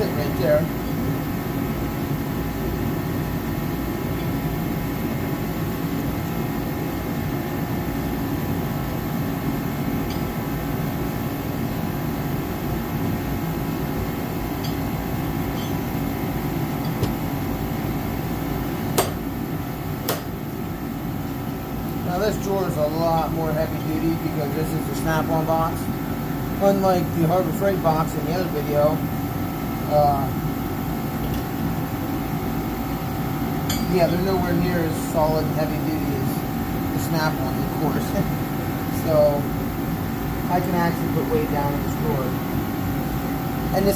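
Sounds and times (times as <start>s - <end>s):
heater humming and whirring: 0.0s - 43.9s.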